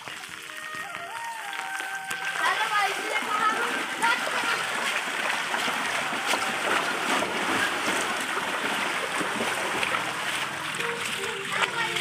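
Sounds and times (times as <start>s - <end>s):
people splashing through water: 0.0s - 12.0s.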